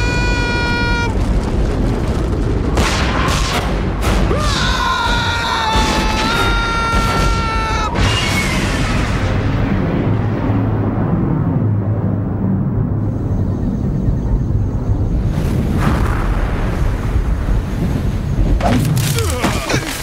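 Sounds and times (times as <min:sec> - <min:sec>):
low explosion rumble: 0:00.0 - 0:06.2, 0:06.8 - 0:18.6.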